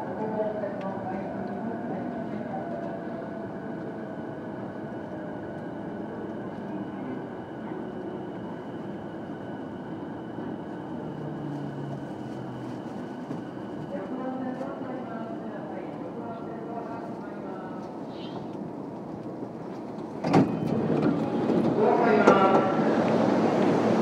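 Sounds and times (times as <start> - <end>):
train interior rumble: 0.0 - 24.0.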